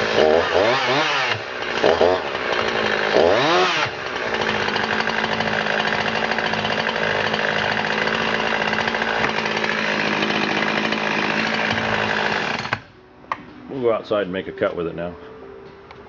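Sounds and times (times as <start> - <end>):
chainsaw engine revving and idling: 0.0 - 12.9.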